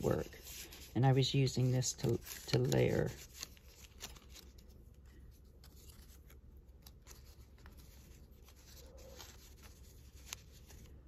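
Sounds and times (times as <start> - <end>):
low room hum: 0.0 - 11.0
paper rustling: 0.0 - 11.0.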